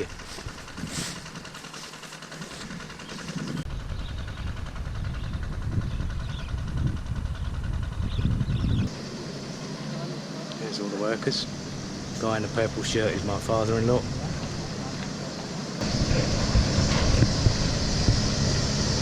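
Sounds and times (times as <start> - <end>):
combine harvester engine rumble: 0.0 - 19.0.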